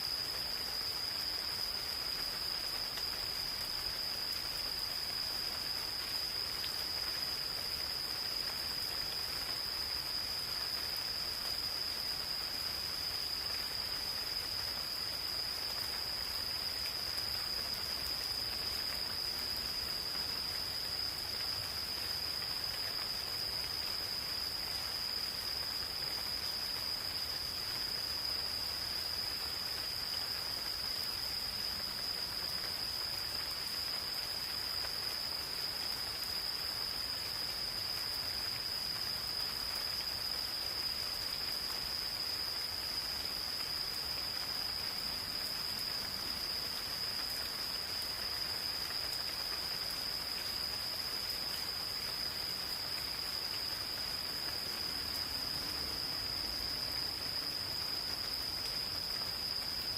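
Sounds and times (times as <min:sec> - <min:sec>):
gentle rain in forest: 0:00.0 - 0:59.9
high-pitched insect chorus: 0:00.0 - 0:59.9.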